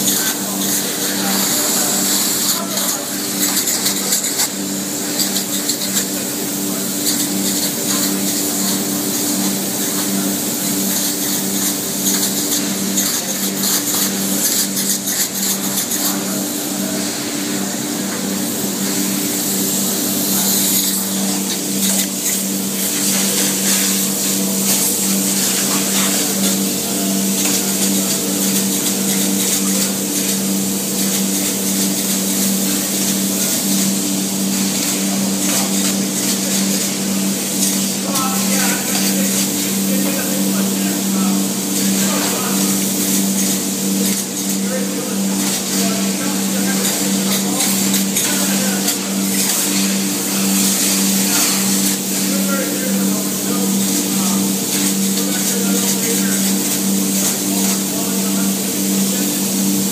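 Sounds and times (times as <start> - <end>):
spray foam gun hissing: 0.0 - 59.9.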